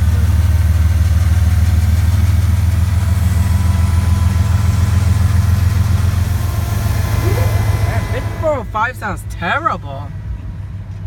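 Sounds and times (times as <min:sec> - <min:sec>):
diesel locomotive engine rumbling: 0:00.0 - 0:11.0.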